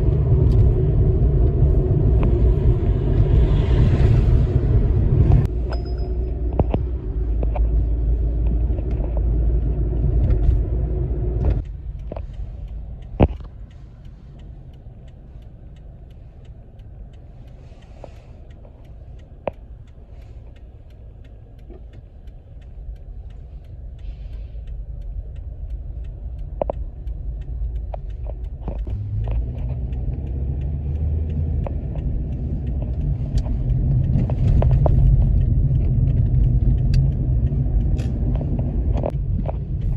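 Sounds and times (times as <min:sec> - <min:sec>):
vehicle road rumble: 0:00.0 - 0:39.9.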